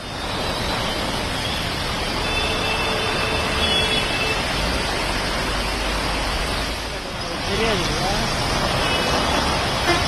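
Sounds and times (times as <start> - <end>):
heavy rain hiss: 0.0 - 10.0
traffic on wet road: 0.0 - 10.0.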